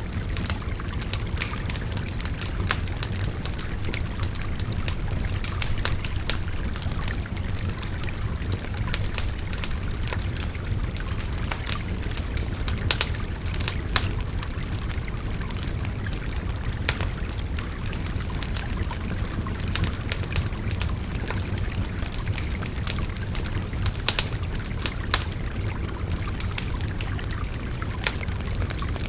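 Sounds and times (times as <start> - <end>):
bonfire crackling and popping: 0.0 - 29.0.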